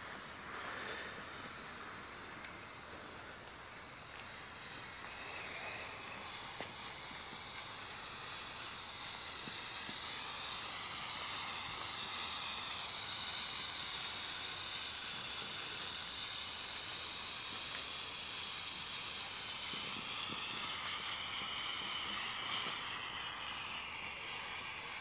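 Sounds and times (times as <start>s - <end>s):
hand flare hissing: 0.0s - 25.0s.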